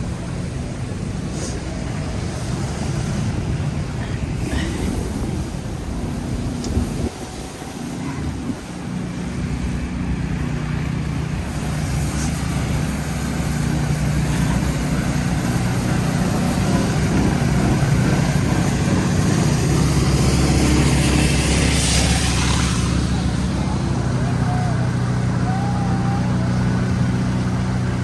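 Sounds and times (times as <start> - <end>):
city traffic noise: 0.0 - 28.0
vehicle engine running: 0.0 - 28.0.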